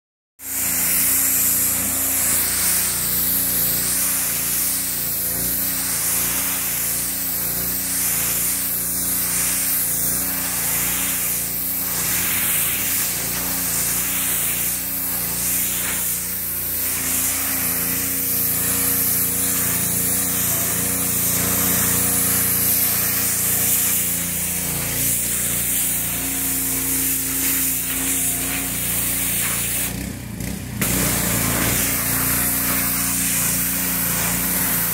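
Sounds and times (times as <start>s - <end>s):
water jet hissing on fabric: 0.4s - 30.0s, 30.8s - 34.9s
pressure washer motor hum: 0.4s - 34.9s.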